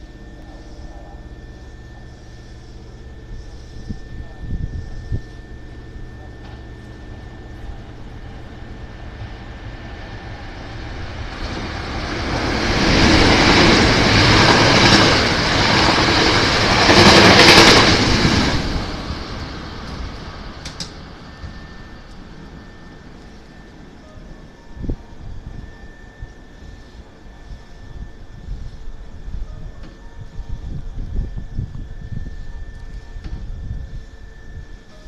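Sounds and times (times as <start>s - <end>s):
electric train running at speed: 0.0s - 35.0s.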